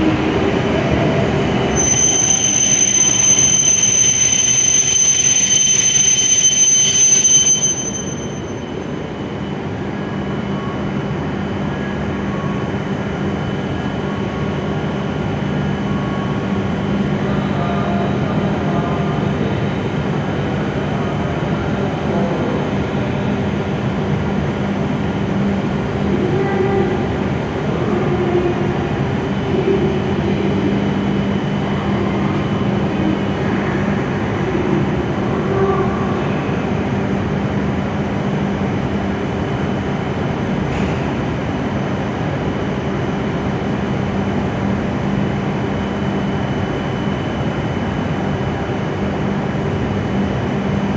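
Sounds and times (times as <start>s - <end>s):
high train whine: 0.0s - 50.9s
train low hum: 0.0s - 50.9s.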